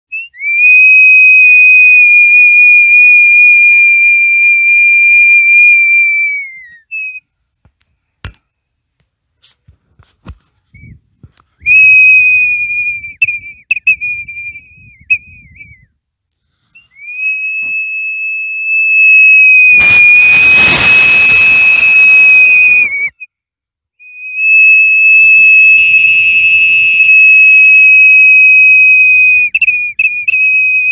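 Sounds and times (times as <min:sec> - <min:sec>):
ceramic water whistle: 0:00.1 - 0:07.2, 0:11.6 - 0:15.8, 0:16.8 - 0:23.3, 0:24.0 - 0:30.9.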